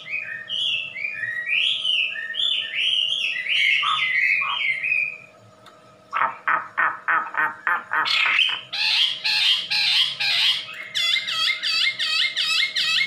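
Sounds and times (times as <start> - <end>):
songbird calling: 0.0 - 5.3, 6.2 - 13.0.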